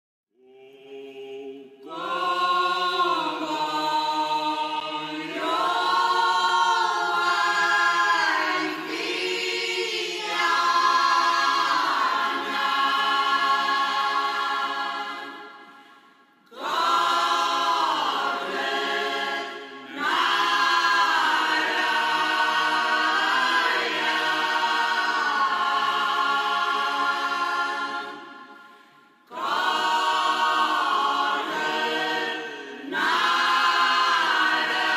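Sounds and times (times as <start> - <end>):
choir singing in harmony: 0.4 - 34.9.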